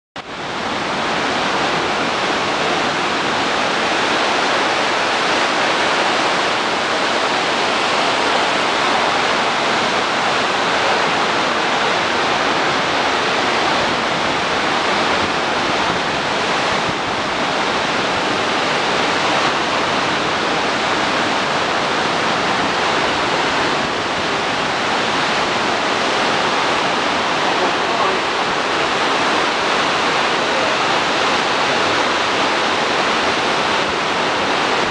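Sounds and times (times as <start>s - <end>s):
ocean surf breaking on beach: 0.2s - 34.9s.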